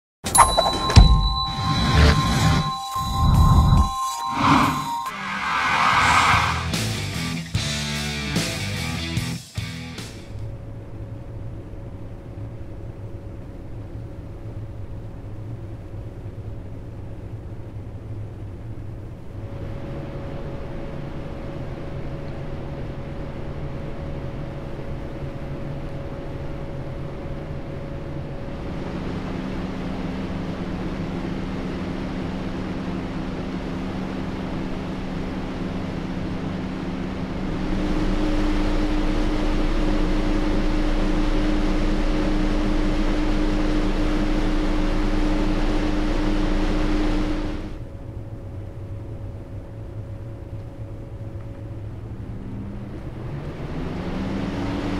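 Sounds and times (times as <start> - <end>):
computer fan whooshing and humming: 0.3 - 54.9.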